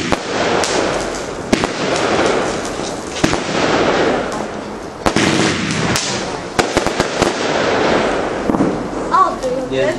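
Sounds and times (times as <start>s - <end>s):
firework bangs: 0.0s - 9.6s
hiss of bursting fireworks: 0.0s - 9.9s.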